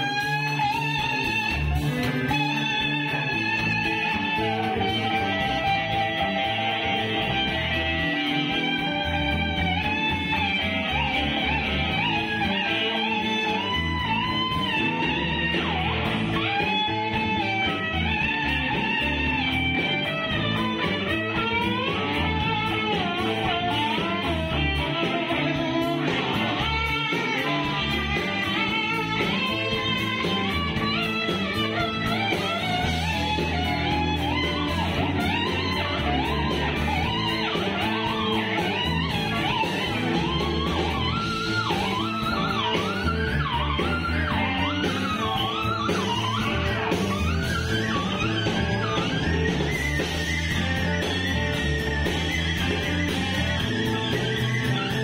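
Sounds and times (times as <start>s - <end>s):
low guitar accompaniment: 0.0s - 55.0s
slide guitar bluesy melody: 0.0s - 55.0s.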